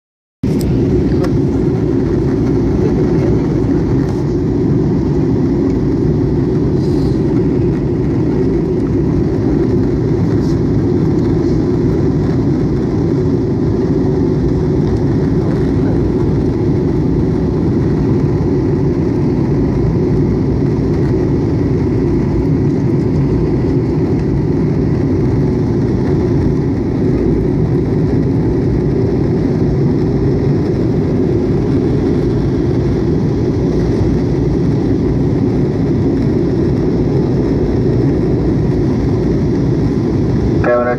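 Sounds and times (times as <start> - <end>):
jet airliner cabin rumble: 0.4 - 40.9.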